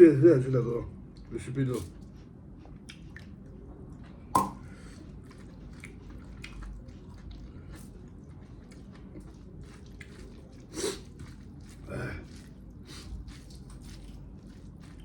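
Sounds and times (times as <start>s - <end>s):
person chewing with wet smacking: 1.0s - 15.0s.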